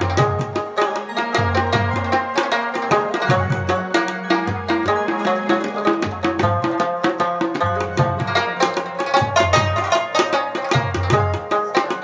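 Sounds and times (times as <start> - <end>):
plucked rabab melody: 0.0 - 12.0
repeating drum beat: 0.0 - 12.0.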